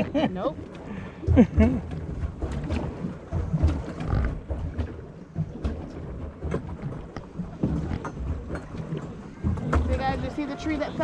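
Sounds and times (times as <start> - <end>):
paddle wheel churning water: 0.0 - 11.0.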